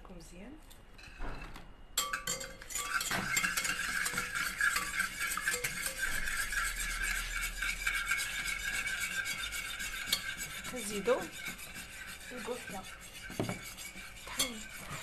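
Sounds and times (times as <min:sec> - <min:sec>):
whisk clinking against bowl: 0:02.0 - 0:15.0.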